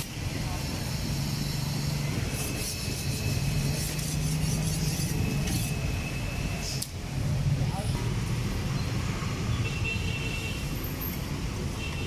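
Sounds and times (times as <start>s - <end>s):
street noise low hum: 0.0s - 12.0s.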